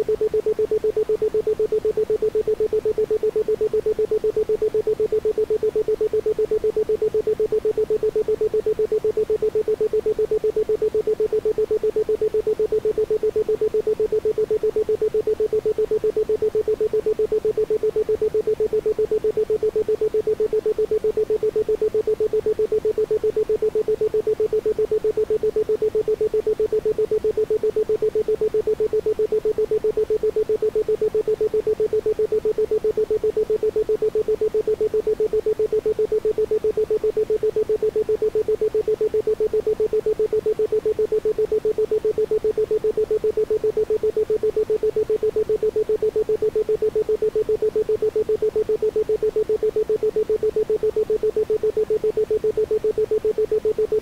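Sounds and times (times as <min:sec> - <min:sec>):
pulsing steady tone: 0:00.0 - 0:54.0.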